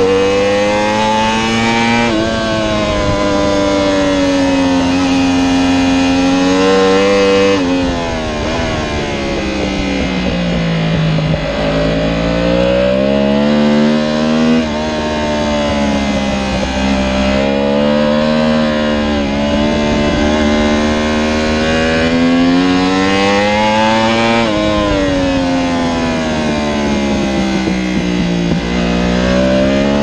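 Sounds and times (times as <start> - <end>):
motorcycle engine at high revs: 0.0 - 30.0.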